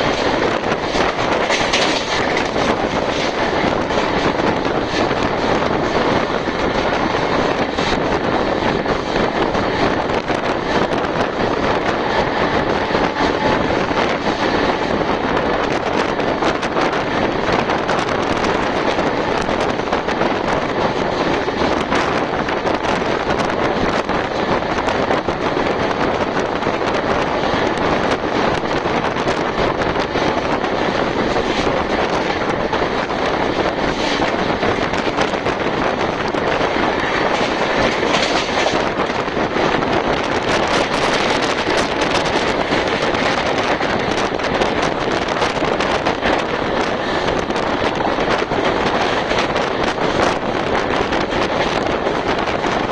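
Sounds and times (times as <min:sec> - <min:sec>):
train wind and running noise: 0:00.0 - 0:52.9.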